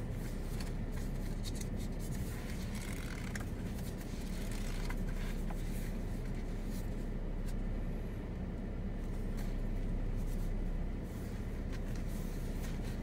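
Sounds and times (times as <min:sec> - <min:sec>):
low outdoor rumble: 0:00.0 - 0:13.0
faint ticks and scrapes: 0:00.2 - 0:07.6, 0:09.0 - 0:13.0.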